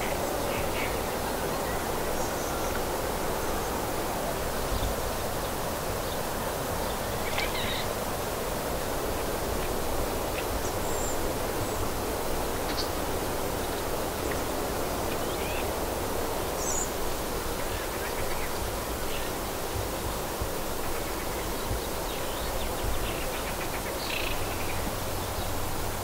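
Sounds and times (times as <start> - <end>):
steady even hiss: 0.0 - 26.0.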